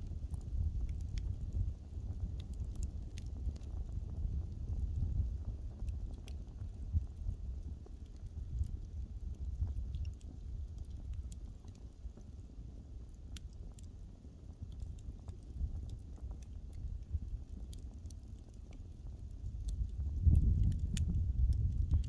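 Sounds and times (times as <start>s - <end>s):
low fire rumble: 0.0s - 22.0s
wood fire crackling: 0.0s - 22.0s.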